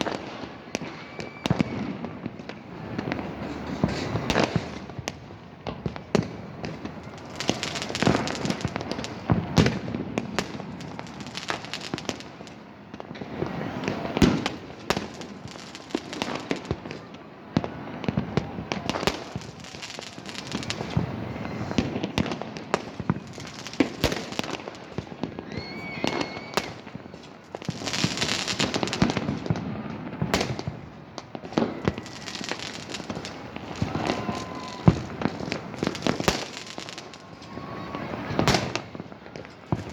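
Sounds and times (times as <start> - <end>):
firework whistle: 0.0 - 5.0, 6.1 - 12.5, 13.1 - 39.9
fireworks bangs and crackling: 0.0 - 39.9.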